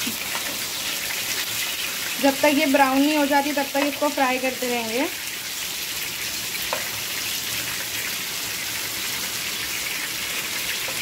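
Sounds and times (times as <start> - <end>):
kebabs sizzling in oil: 0.0 - 11.0.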